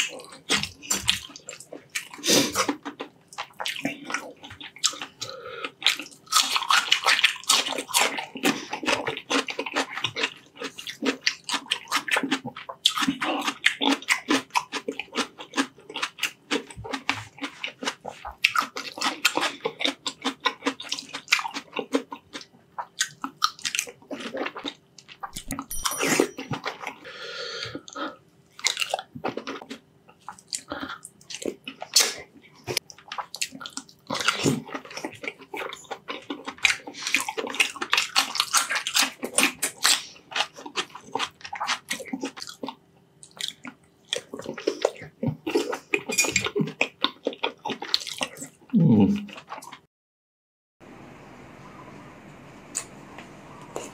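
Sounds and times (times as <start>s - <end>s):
wet chewing and mouth smacking: 0.0s - 27.0s, 27.6s - 49.9s.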